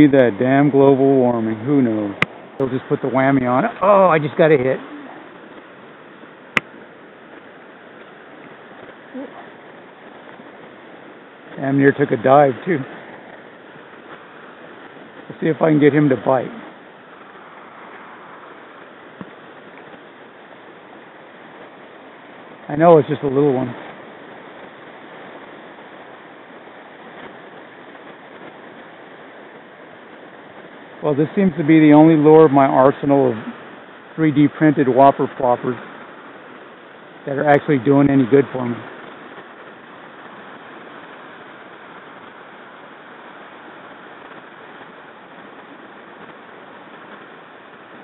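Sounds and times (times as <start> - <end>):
river rushing over riffles: 0.0 - 48.0.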